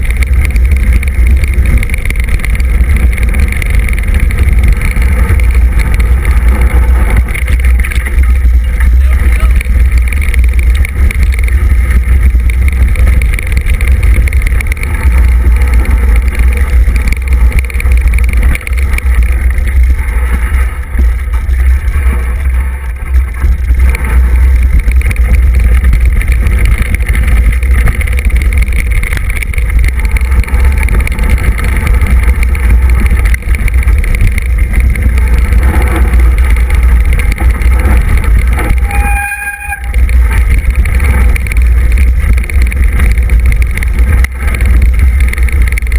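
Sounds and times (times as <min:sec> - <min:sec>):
bike rattling on dirt trail: 0:00.0 - 0:45.9
wind buffeting microphone: 0:00.0 - 0:45.9.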